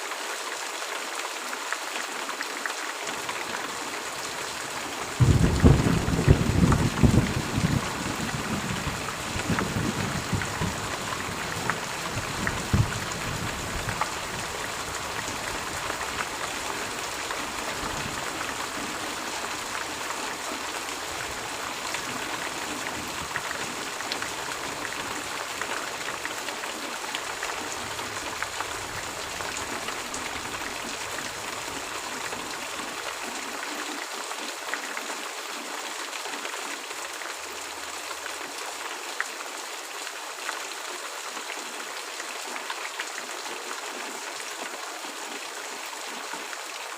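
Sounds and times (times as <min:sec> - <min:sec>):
steady rain hissing: 0:00.0 - 0:46.9.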